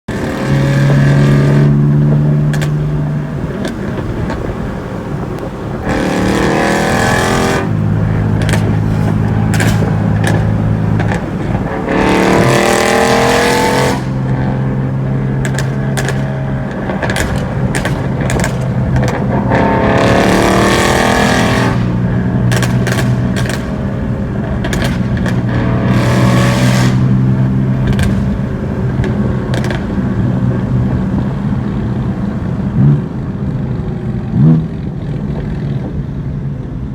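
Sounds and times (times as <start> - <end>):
car engine idling and revving: 0.1 - 36.9
exhaust pops and crackles: 1.2 - 33.1.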